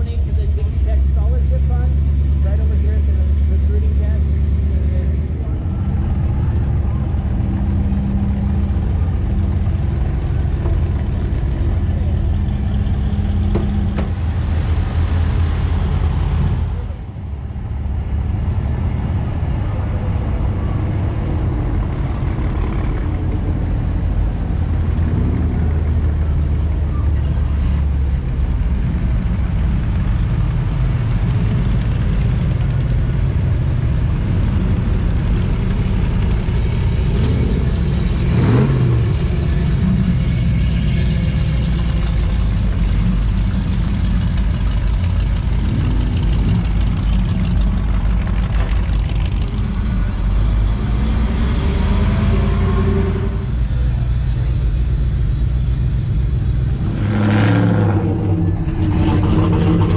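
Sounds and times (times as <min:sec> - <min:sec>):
car engines rumbling: 0:00.0 - 0:59.9.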